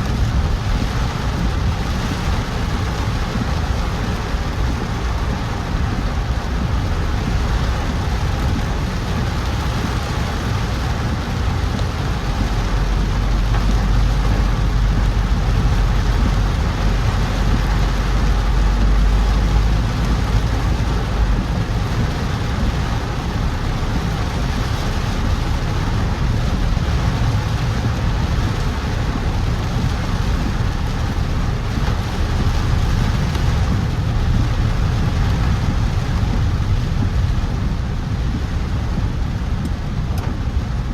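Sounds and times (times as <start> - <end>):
car engine and tyre noise: 0.0 - 40.9
deep low rumble: 0.0 - 40.9
rain falling on car: 0.0 - 40.9.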